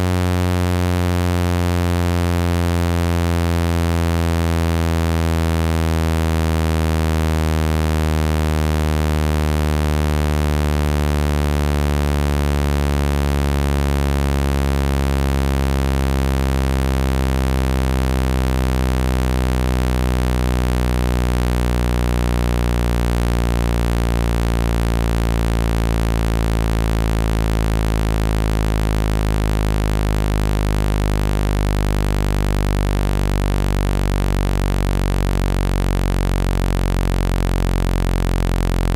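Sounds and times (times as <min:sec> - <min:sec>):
synthesized low buzzing tone: 0:00.0 - 0:38.9.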